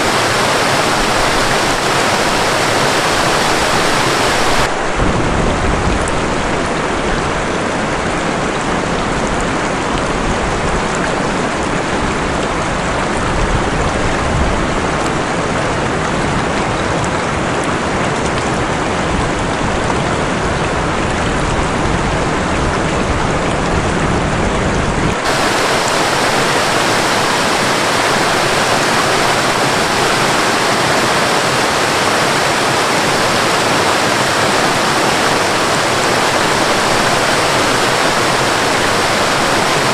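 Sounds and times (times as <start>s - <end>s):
waterfall rushing: 0.0s - 21.5s, 24.5s - 39.9s
rain: 0.0s - 39.9s.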